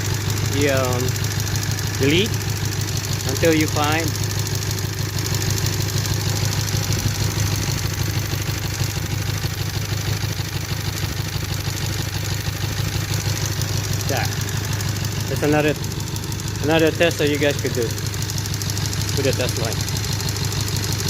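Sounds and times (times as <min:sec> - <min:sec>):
car engine idling with misfire: 0:00.0 - 0:21.0.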